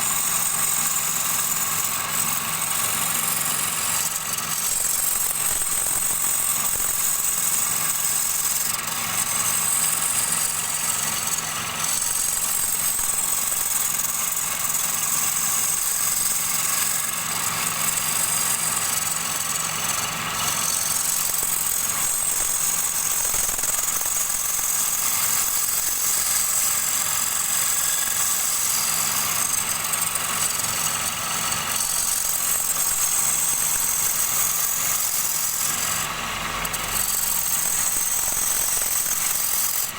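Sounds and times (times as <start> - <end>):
high hiss of lathe: 0.0 - 39.9
wood lathe motor hum: 0.0 - 39.9.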